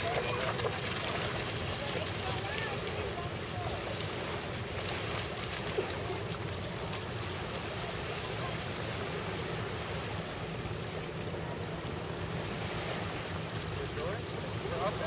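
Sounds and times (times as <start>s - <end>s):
small waves lapping on sand: 0.0s - 15.0s.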